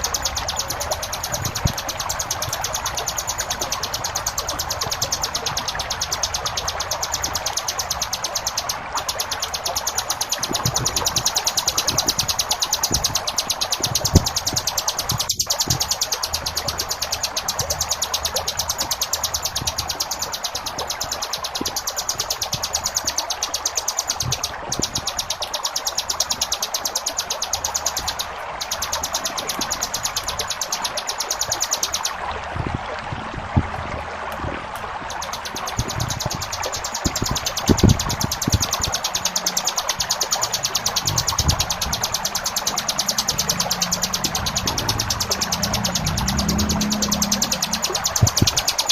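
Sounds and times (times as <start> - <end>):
bird song of fast high notes: 0.0 - 32.2, 35.1 - 48.9
flowing water: 0.0 - 48.9.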